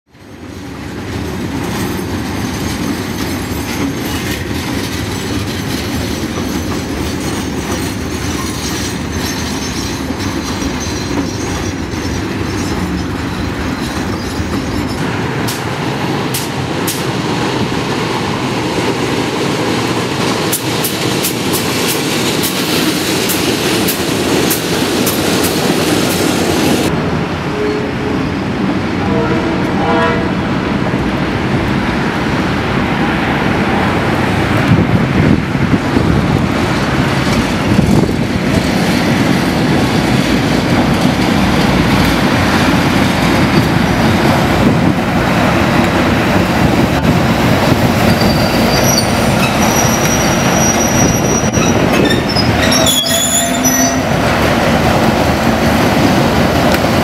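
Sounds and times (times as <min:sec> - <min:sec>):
steel wheels rumbling on rail: 0:00.1 - 0:57.0.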